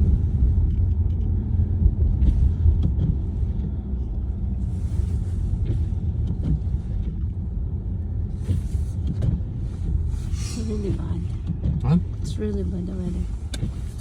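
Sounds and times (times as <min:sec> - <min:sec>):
car driving rumble from inside: 0:00.0 - 0:14.0.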